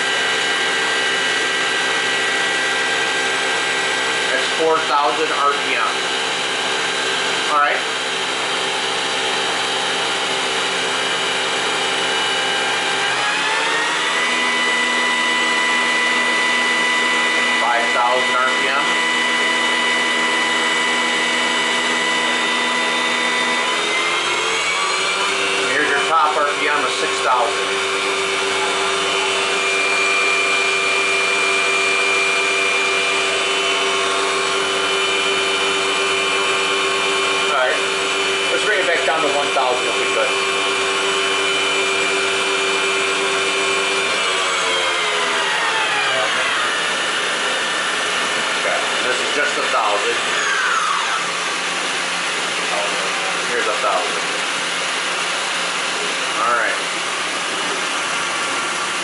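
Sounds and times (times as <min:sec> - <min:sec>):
machine spindle whining: 0:00.0 - 0:59.0.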